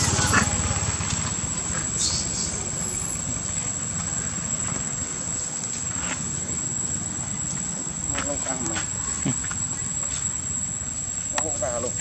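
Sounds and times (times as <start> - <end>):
low rumble of outdoor background: 0.0 - 12.0.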